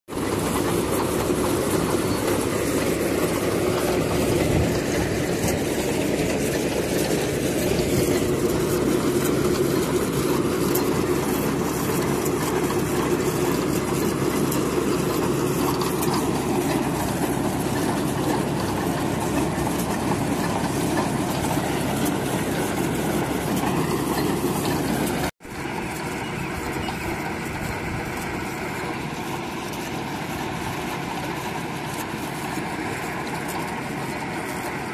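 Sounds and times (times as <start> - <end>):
drilling rig engine drone: 0.1 - 34.9.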